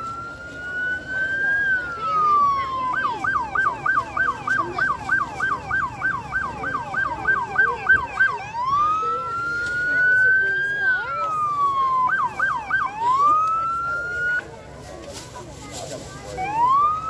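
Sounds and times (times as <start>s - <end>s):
electronic siren wailing and yelping: 0.0s - 14.4s, 16.4s - 17.0s.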